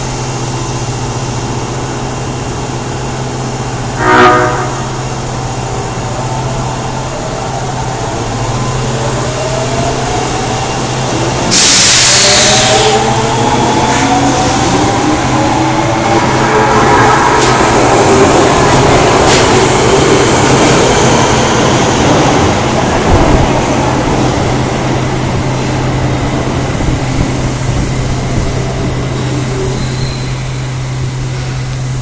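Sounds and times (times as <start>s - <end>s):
subway train pulling out: 0.0s - 32.0s.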